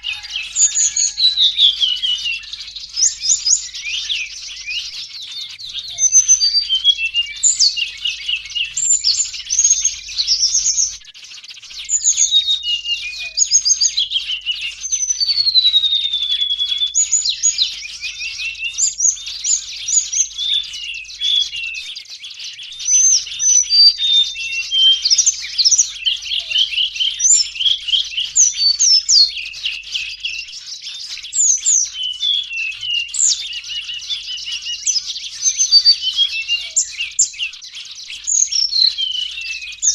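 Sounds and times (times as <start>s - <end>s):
flock of small birds chattering: 0.0s - 39.9s.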